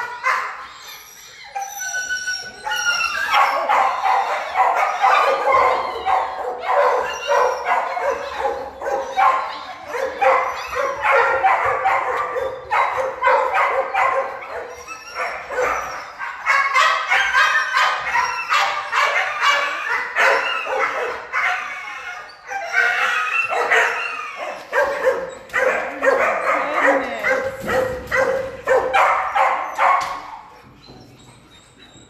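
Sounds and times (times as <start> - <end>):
dogs barking: 2.6 - 30.6.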